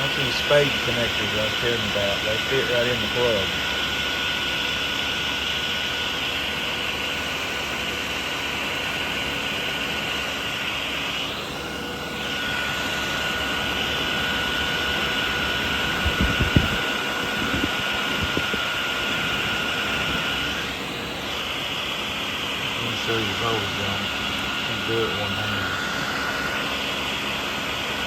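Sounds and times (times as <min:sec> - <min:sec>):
blower motor whine: 0:00.0 - 0:28.0.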